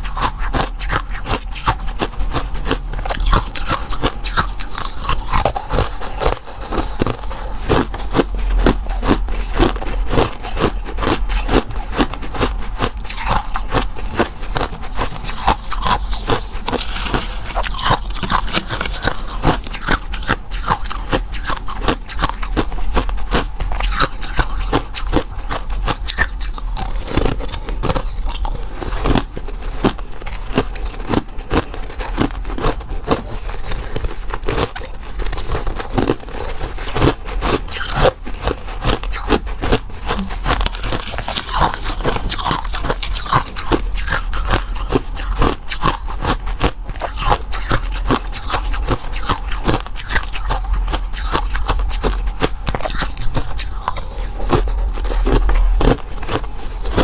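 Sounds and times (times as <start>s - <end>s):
crackling clicks and scraping: 0.0s - 57.0s
person biting and crunching food: 0.0s - 57.0s.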